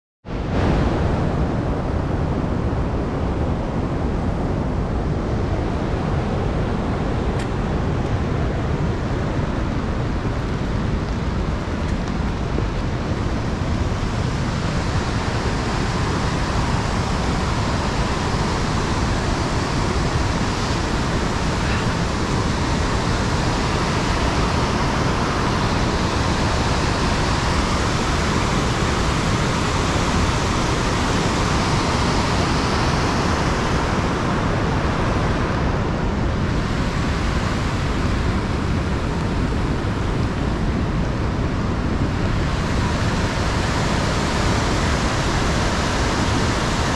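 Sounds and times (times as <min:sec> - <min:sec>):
waterfall and rapids rushing: 0:00.3 - 0:46.9.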